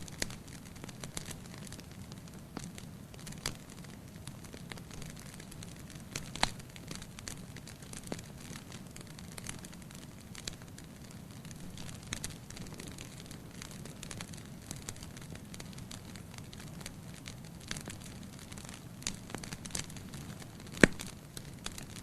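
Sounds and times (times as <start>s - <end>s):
burning logs crackling: 0.0s - 22.0s.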